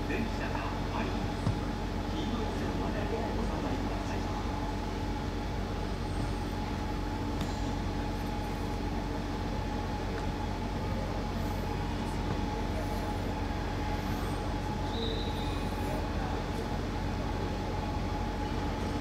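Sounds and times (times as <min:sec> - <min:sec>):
station platform hum and rumble: 0:00.0 - 0:19.0.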